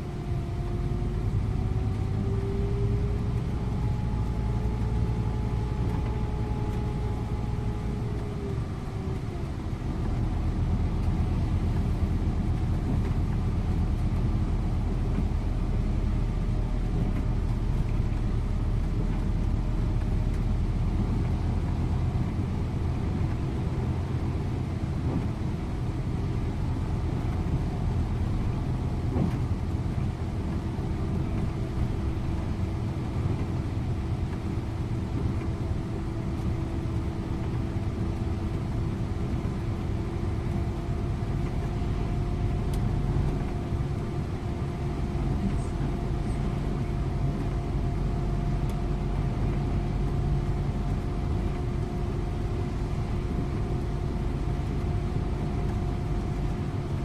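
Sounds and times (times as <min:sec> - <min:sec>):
coach engine and tyres rumbling: 0:00.0 - 0:57.0.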